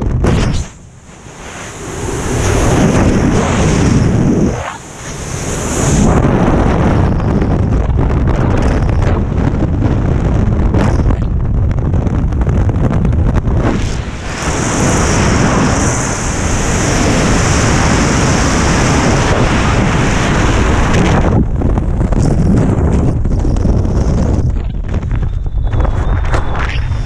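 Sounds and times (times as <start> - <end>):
wind buffeting roar: 0.0 - 27.0.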